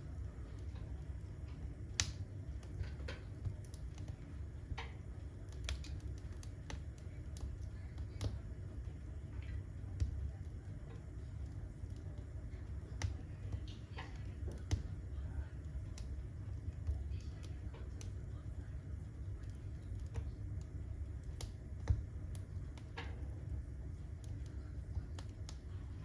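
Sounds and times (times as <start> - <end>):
firewood crackling and popping: 0.0 - 26.0
low rumble of fire: 0.0 - 26.0.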